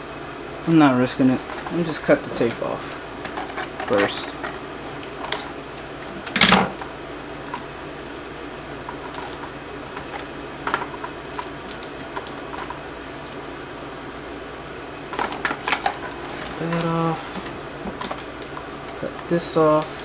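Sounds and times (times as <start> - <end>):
hands handling tape and packaging: 1.4 - 14.4, 15.1 - 20.0.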